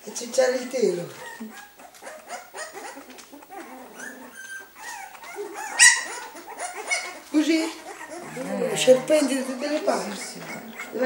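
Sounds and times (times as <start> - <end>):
puppy whimpering and squeaking: 0.6 - 11.0.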